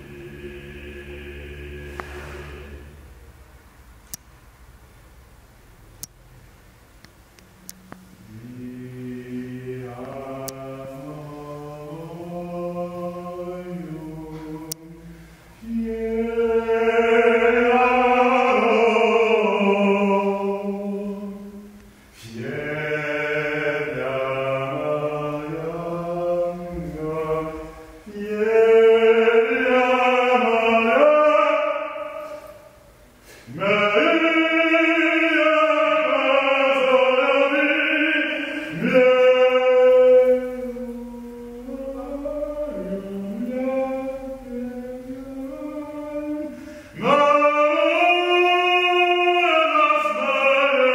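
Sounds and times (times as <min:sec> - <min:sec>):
man singing slow chant: 0:00.0 - 0:03.1, 0:08.2 - 0:50.9.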